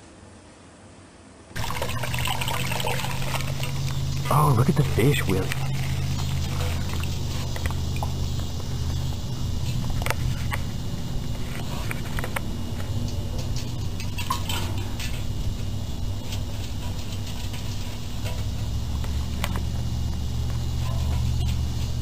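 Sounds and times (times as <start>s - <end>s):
steady low hum: 1.4s - 22.0s.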